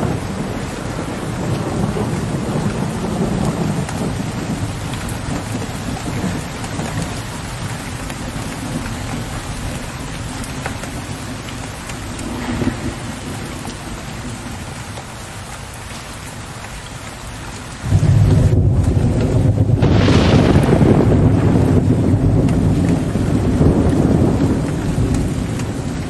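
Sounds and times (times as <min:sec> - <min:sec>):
distant thunder rumbling: 0:00.0 - 0:14.8, 0:17.8 - 0:26.0
heavy rain: 0:00.0 - 0:26.0
raindrops tapping: 0:00.0 - 0:26.0.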